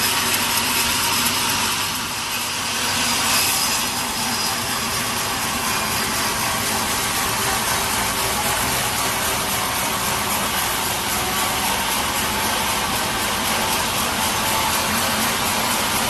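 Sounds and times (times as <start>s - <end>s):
saw cutting through log: 0.0s - 16.0s.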